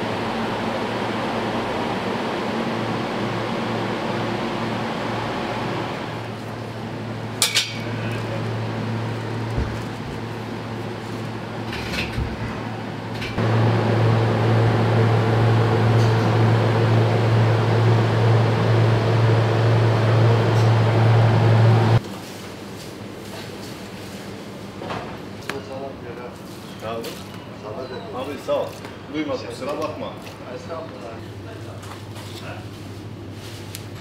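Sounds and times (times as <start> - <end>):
refrigeration fans humming: 0.0 - 34.0.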